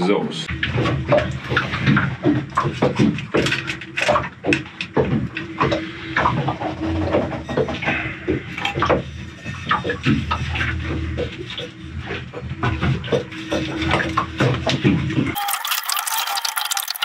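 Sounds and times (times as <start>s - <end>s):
steady low hum: 0.0s - 15.4s
hoses and metal fittings clattering: 0.5s - 17.0s.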